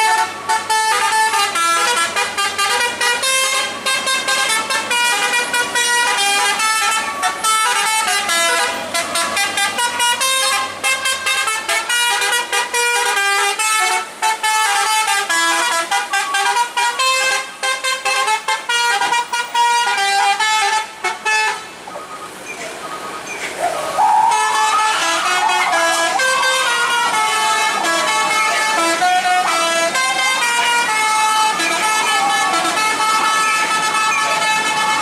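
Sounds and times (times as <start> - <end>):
musical vehicle horn tune: 0.0 - 21.8, 24.2 - 35.0.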